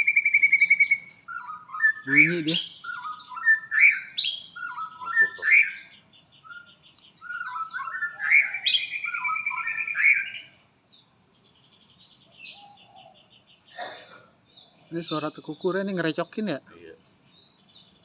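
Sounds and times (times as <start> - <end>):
bird singing whistled notes and trills: 0.0 - 18.0.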